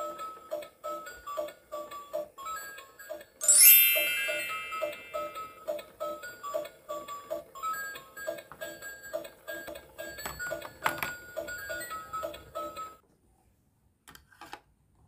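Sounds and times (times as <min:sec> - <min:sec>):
toy microwave electronic tune: 0:00.0 - 0:13.0.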